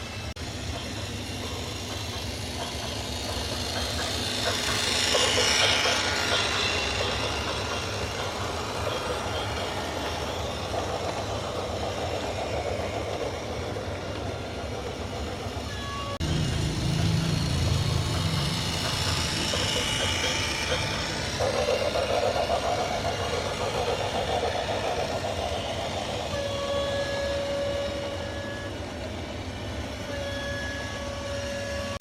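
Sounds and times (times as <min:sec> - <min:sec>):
machinery rattling: 0:00.1 - 0:32.0.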